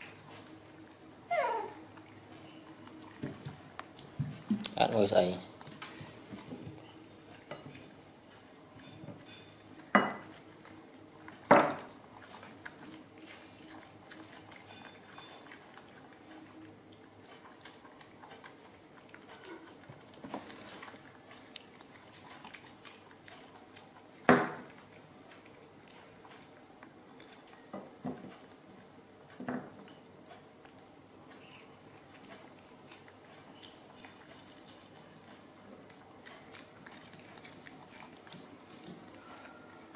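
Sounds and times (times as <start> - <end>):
monkeys eating clicks and smacks: 0.0 - 39.9.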